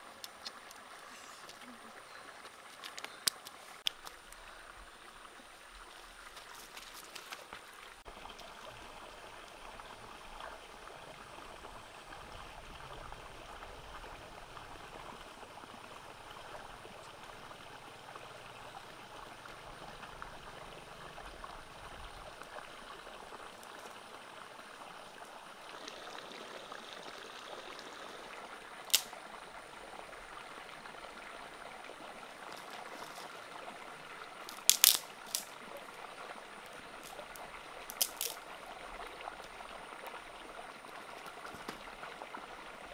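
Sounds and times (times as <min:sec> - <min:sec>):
stream babbling over rocks: 0:00.0 - 0:42.9.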